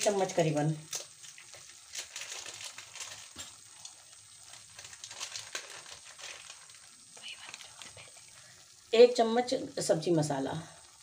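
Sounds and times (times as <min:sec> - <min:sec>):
gravy sizzling and popping: 0:00.0 - 0:11.0.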